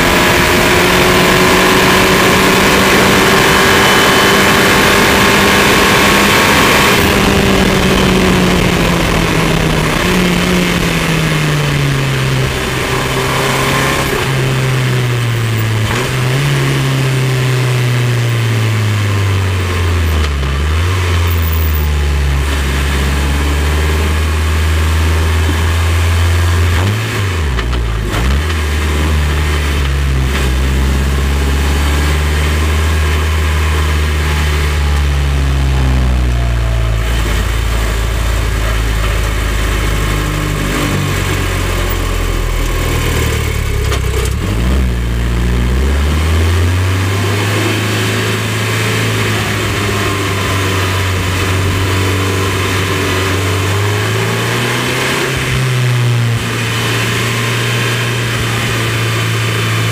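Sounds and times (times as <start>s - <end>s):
car engine slowing down: 0.0s - 59.9s.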